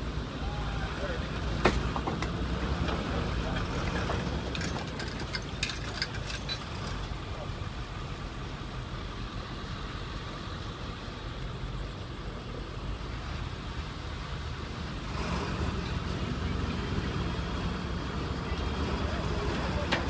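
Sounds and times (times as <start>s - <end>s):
engine rumbling: 0.0s - 20.0s.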